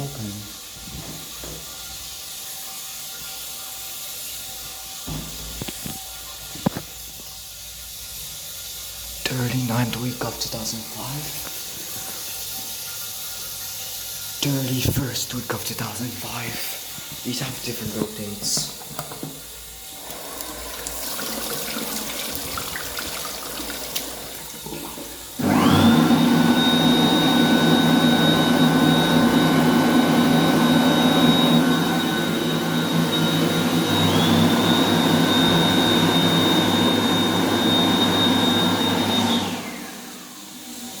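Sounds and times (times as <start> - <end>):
hand dryer running with whine: 0.0 - 41.0.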